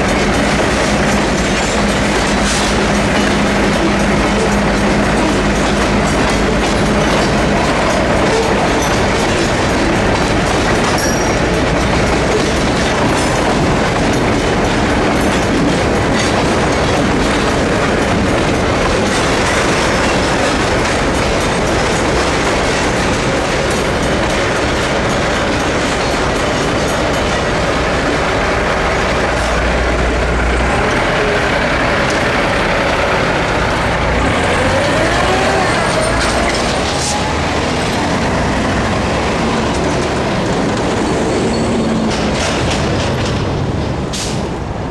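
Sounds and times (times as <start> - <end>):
crossing bell ringing: 0.0 - 42.4
train rumble: 0.0 - 44.9
train wheels clicking over rail joints: 0.0 - 44.9.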